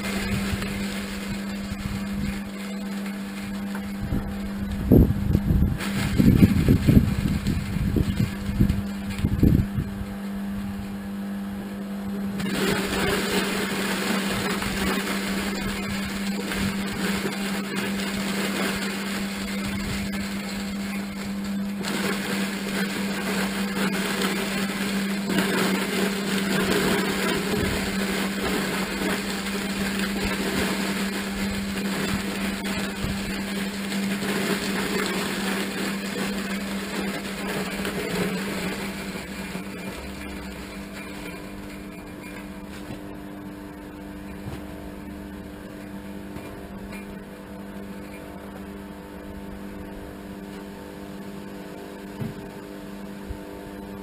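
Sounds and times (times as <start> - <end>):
electric motor humming: 0.0 - 54.0.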